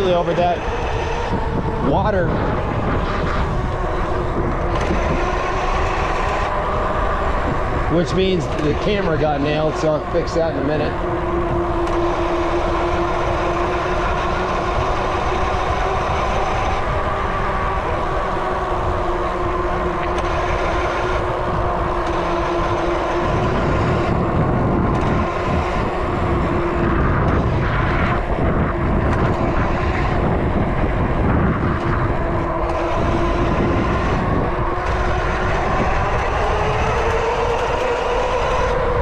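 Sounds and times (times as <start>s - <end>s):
bike tire hum: 0.0s - 39.0s
wind rumble on microphone: 0.0s - 39.0s.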